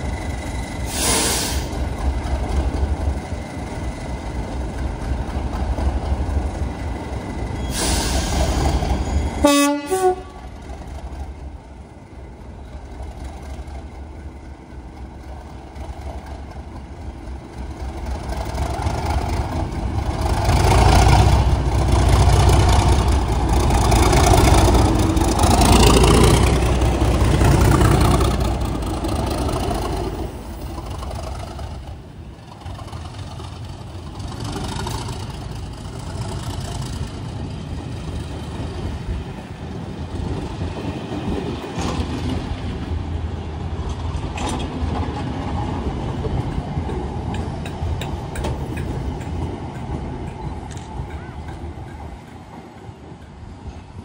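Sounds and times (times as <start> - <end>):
diesel locomotive engine passing: 0.0 - 54.0
train coaches rolling by: 0.0 - 54.0.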